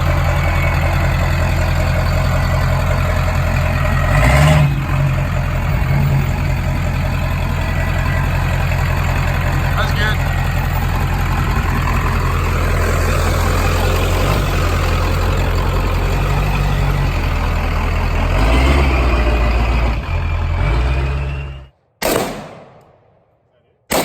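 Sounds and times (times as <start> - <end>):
vehicle engine and road rumble: 0.0 - 23.3.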